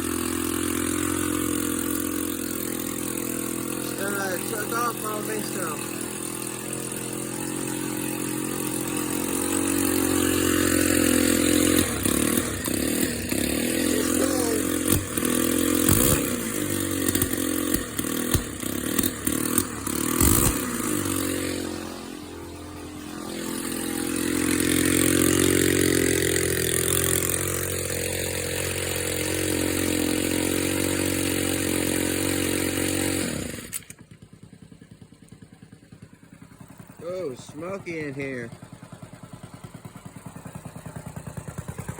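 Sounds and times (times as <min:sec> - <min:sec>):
engine knocks and clatter: 0:00.0 - 0:21.4, 0:22.6 - 0:41.9
small engine running unevenly: 0:00.0 - 0:41.9.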